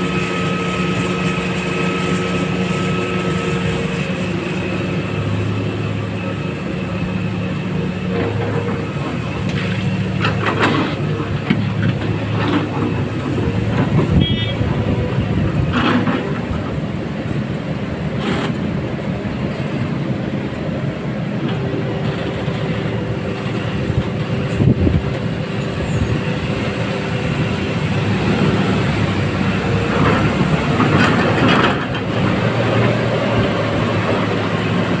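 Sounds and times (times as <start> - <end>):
excavator engine and hydraulics: 0.0 - 35.0.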